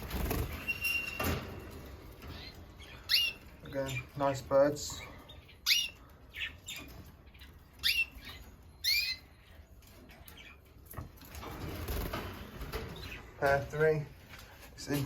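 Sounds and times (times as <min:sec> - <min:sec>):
canaries calling: 0:00.0 - 0:14.0.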